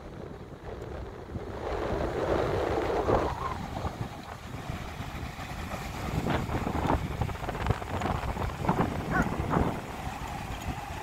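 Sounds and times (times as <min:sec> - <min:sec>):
breaking surf: 0:00.0 - 0:11.0
wind buffeting microphone: 0:00.0 - 0:11.0.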